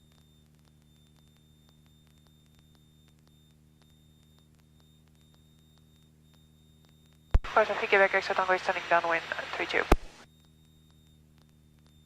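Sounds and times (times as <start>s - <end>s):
faint electrical hum: 0.4s - 11.8s.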